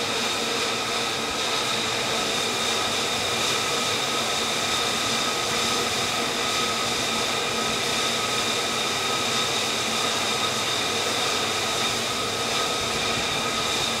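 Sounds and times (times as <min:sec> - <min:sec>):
jet engine running: 0:00.0 - 0:14.0.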